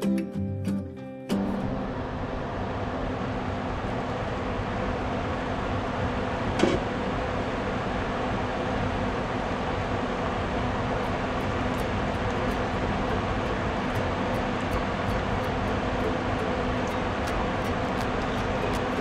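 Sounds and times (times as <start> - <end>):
broth boiling in a pan: 2.2 - 19.0.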